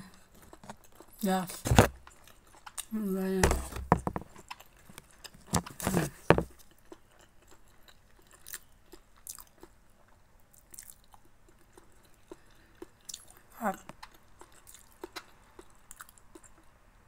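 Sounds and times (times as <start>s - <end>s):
person chewing: 0.1s - 16.8s.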